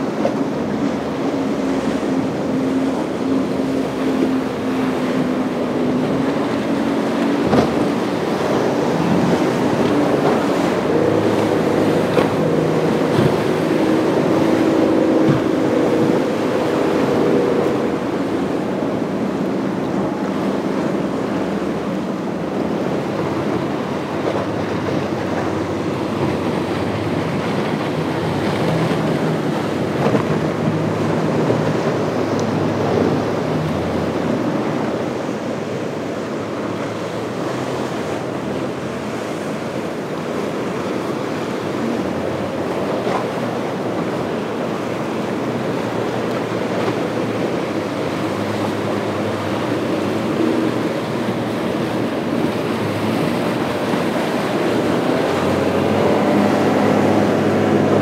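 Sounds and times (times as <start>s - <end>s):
boat motor running: 0.0s - 58.0s
surf and choppy water: 0.0s - 58.0s
wind buffeting microphone: 0.0s - 58.0s.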